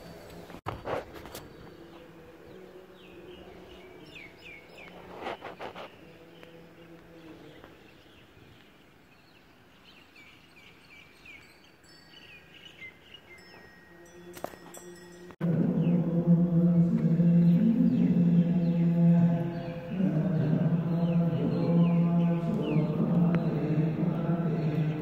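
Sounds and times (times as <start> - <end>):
faint outdoor ambience: 0.0 - 25.0
small birds chirping: 1.0 - 25.0.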